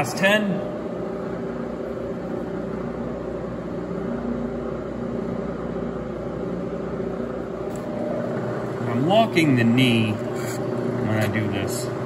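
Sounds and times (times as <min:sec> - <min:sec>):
milling machine motor humming: 0:00.0 - 0:12.0.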